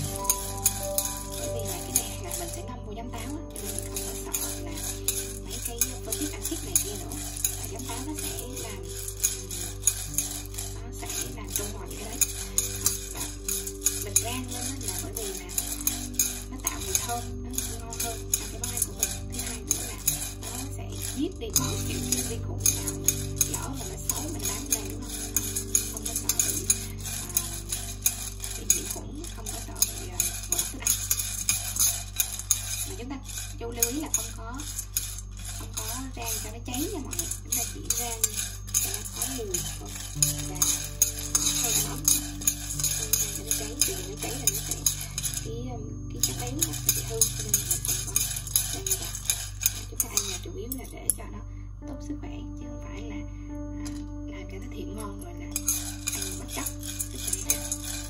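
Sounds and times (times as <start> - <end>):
seeds rattling in metal pan: 0.0 - 51.2, 54.9 - 58.0.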